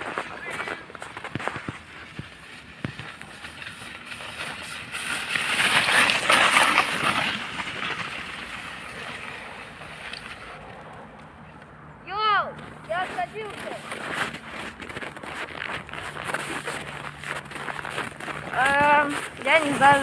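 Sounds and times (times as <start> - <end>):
skis scraping across snow: 0.0 - 10.9, 12.6 - 20.0.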